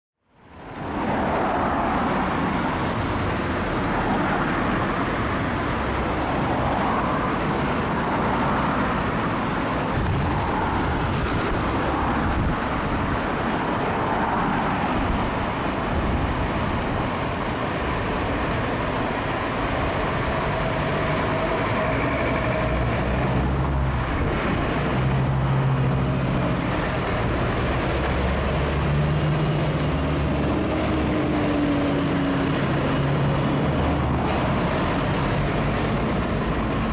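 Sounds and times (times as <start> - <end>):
cars passing by: 0.3 - 36.9
diesel fire engine running: 1.8 - 36.9.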